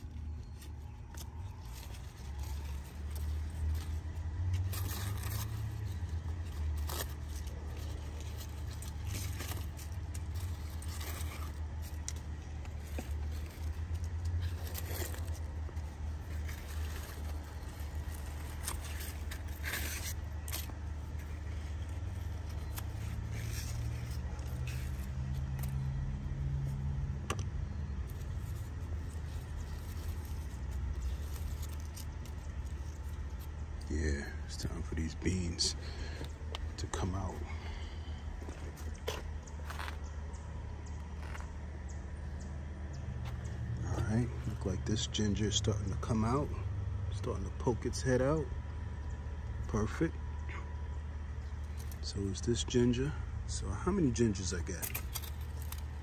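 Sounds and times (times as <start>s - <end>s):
leaves rustling and scraping: 0.0s - 46.5s, 51.3s - 53.0s, 53.6s - 56.0s.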